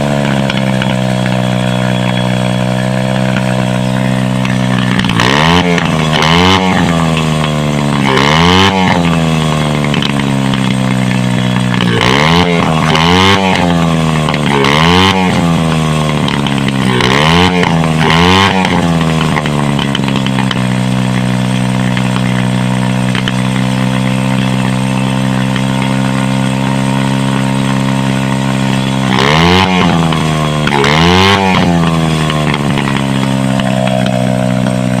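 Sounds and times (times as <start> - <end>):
dirt bike engine idling and revving: 0.0 - 35.0.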